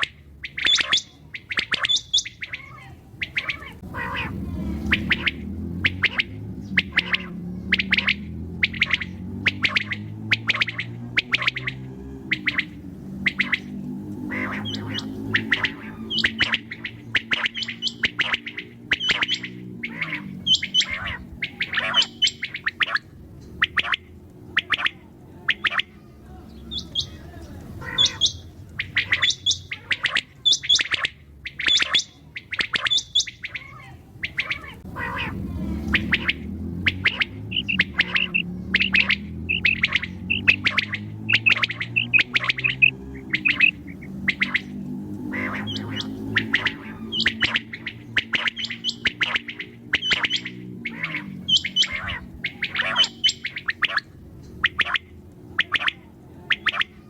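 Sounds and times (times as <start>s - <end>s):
quail calling short sharp notes: 0.0s - 57.0s.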